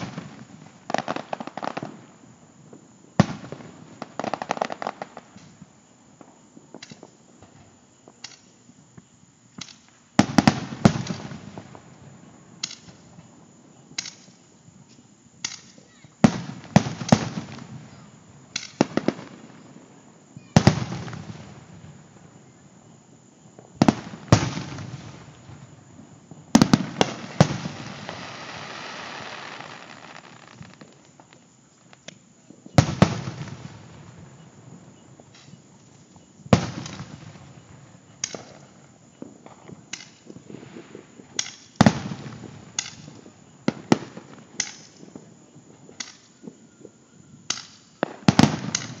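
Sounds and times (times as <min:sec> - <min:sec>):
distant fireworks booming: 0:00.0 - 0:49.0
fireworks hissing crackle: 0:00.0 - 0:49.0.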